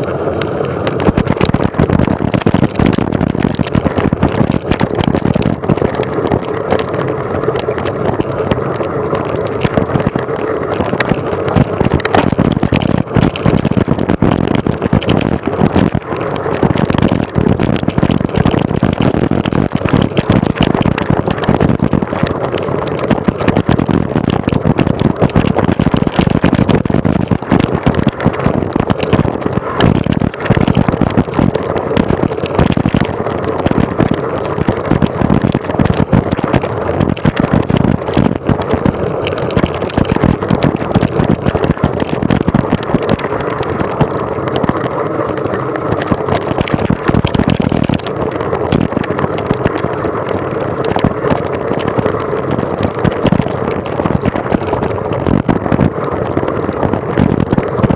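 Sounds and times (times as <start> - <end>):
bike rattling and knocking: 0.0 - 57.9
rushing wind noise: 0.0 - 57.9.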